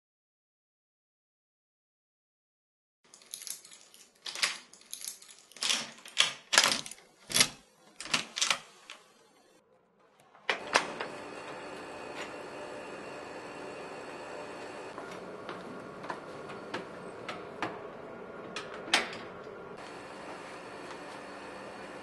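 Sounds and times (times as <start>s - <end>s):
room hum: 3.1s - 22.0s.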